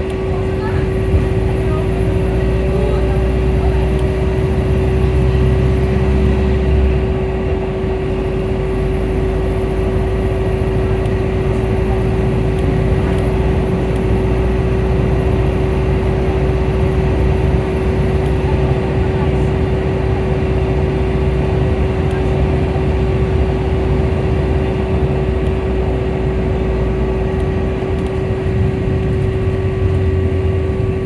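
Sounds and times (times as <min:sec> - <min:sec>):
bus engine whine: 0:00.0 - 0:31.0
rumbling ride noise: 0:00.0 - 0:31.0.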